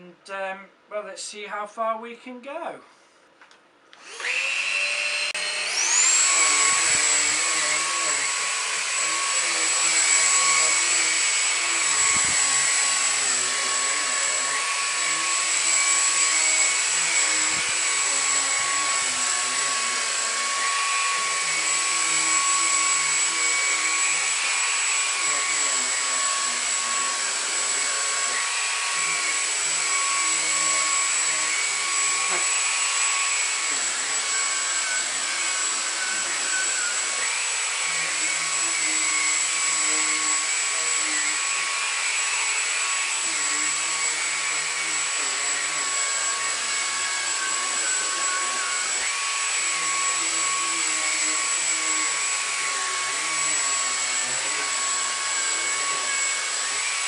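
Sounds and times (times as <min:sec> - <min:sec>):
vacuum cleaner running: 0:04.0 - 0:57.0.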